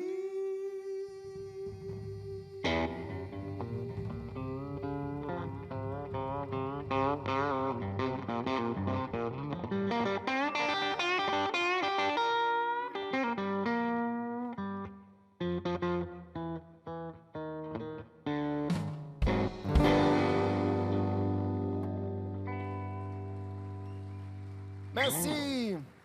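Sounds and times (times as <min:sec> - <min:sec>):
band music with electric guitar: 0:02.7 - 0:25.6.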